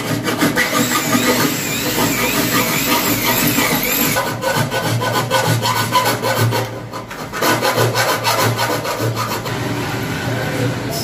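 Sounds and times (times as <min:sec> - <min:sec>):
file rasping on steel: 0:00.0 - 0:09.7.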